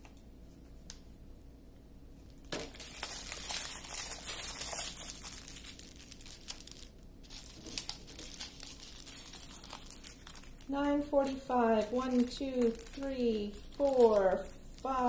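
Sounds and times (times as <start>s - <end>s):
plastic bags crinkling: 2.3s - 15.0s.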